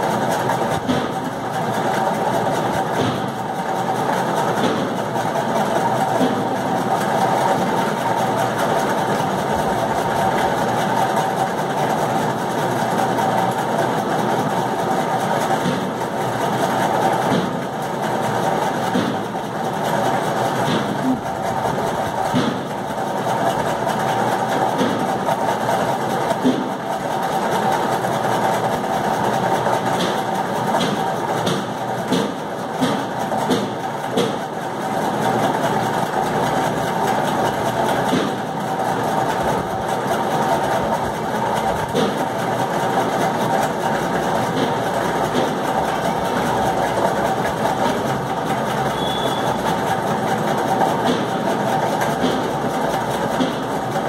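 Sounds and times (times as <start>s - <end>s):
mechanical motor hum: 0.0s - 54.0s.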